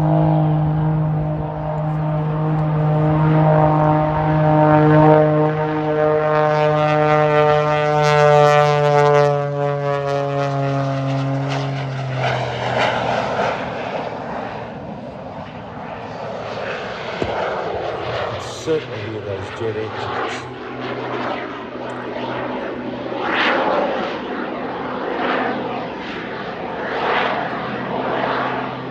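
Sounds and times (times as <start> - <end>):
jet engine roar: 0.0 - 28.9
propeller plane engine drone: 0.0 - 28.9.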